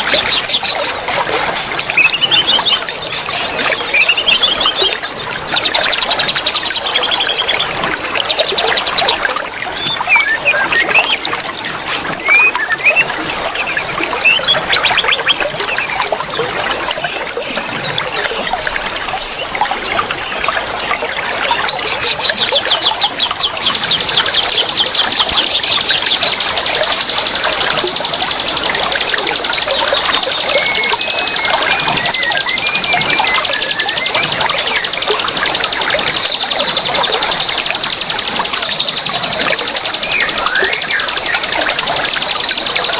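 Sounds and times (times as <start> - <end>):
birds chirping and calling: 0.0 - 42.9
trickling water: 0.0 - 42.9.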